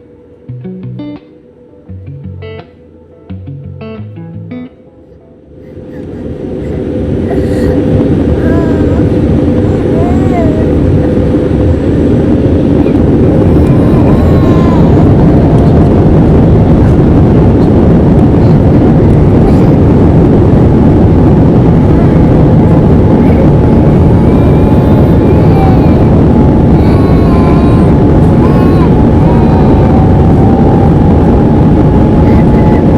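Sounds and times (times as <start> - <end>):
jet engines roaring: 5.5 - 32.9.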